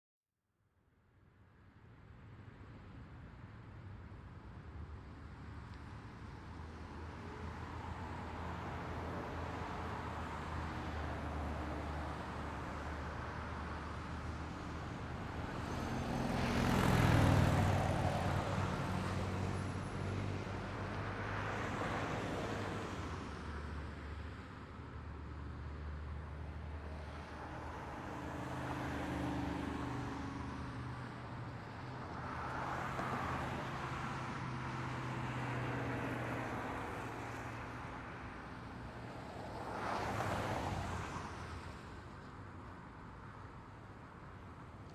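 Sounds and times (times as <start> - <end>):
vehicles passing: 7.5 - 44.9.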